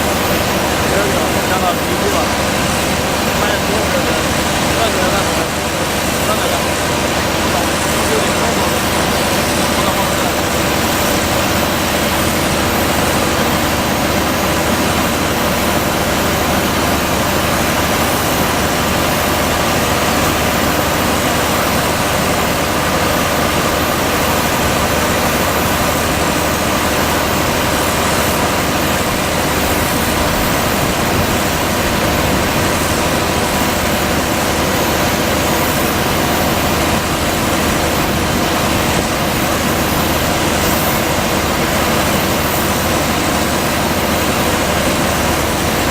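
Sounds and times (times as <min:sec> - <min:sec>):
engine and fan drone: 0:00.0 - 0:45.9.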